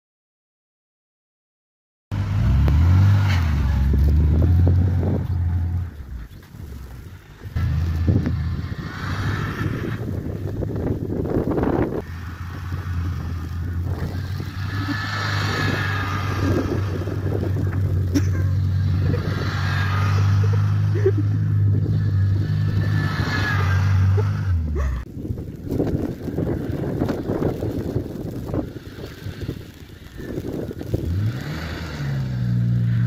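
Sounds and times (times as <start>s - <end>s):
car engine at steady revs: 2.2s - 33.0s.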